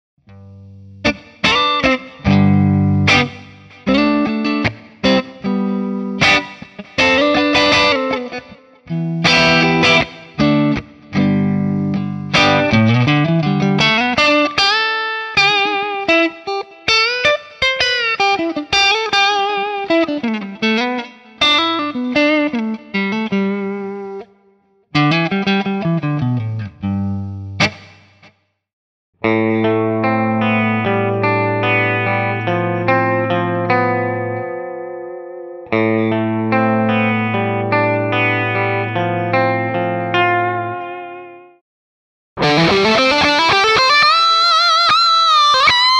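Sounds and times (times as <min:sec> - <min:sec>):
clean electric guitar: 0:00.3 - 0:28.3, 0:29.2 - 0:41.6, 0:42.4 - 0:45.9.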